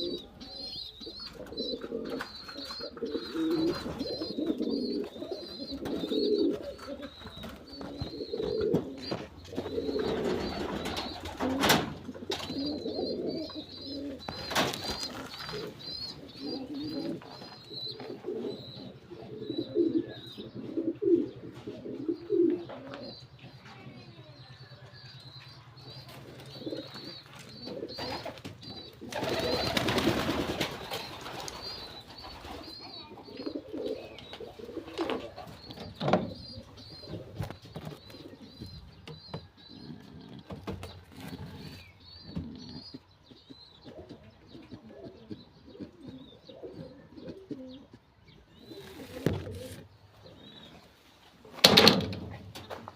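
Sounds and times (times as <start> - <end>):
pigeons cooing: 0.0 - 52.9.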